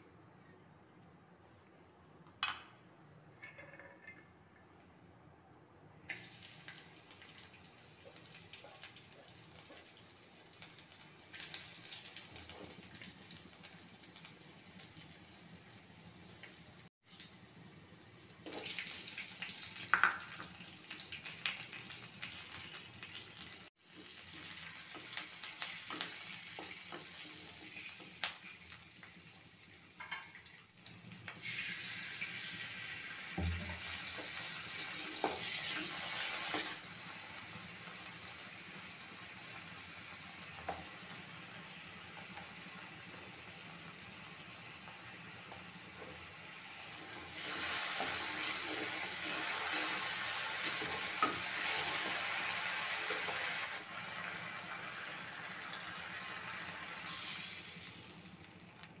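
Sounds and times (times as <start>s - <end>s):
onion sizzling in hot oil: 6.1s - 59.0s.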